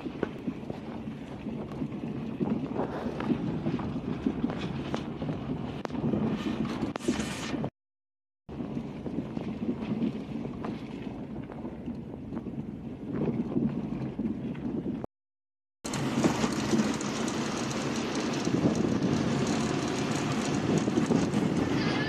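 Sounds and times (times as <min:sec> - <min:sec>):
wind on microphone: 0:00.0 - 0:07.7, 0:08.5 - 0:15.1, 0:15.9 - 0:22.0.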